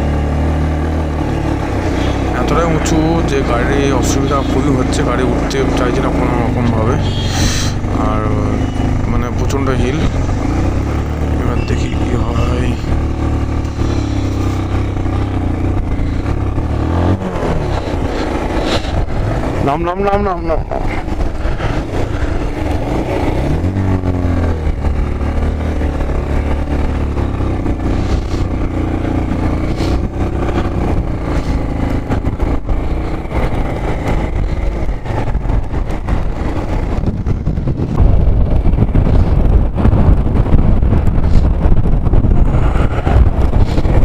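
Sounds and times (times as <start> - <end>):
loud low rumble: 0.0 - 44.0
motorcycle engine labouring uphill: 0.0 - 44.0.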